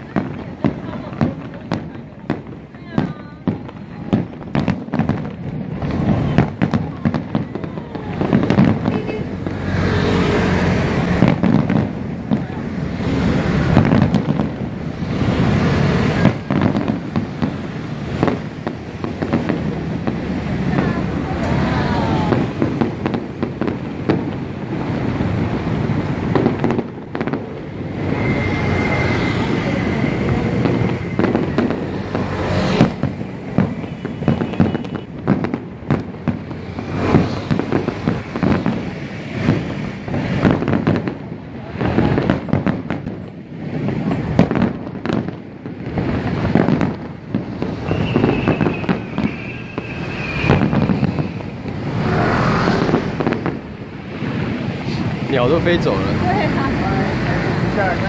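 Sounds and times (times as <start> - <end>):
firework whistling: 0.0 - 58.0
fireworks booming and crackling: 0.0 - 58.0.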